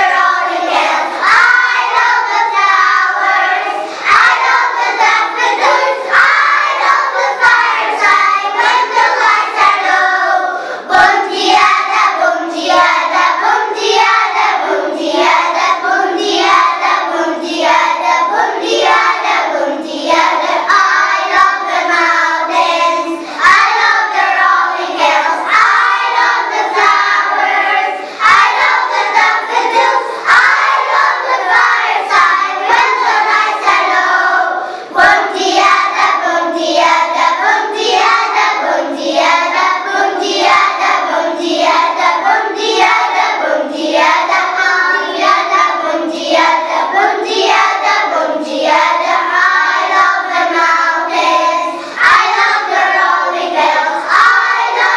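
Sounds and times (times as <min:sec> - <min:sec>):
children's choir singing: 0:00.0 - 0:54.9.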